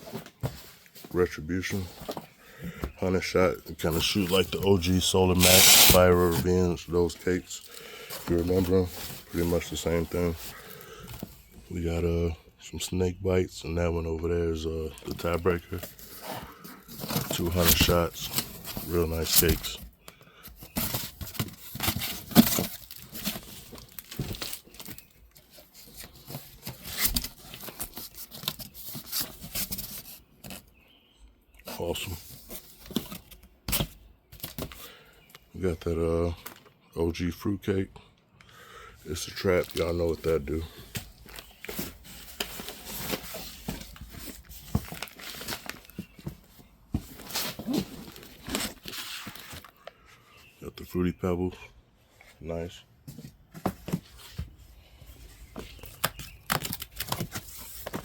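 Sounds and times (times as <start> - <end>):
cardboard boxes rustling and scraping: 0.0 - 11.6, 15.0 - 31.0, 31.7 - 34.9, 39.2 - 49.9, 53.0 - 58.0.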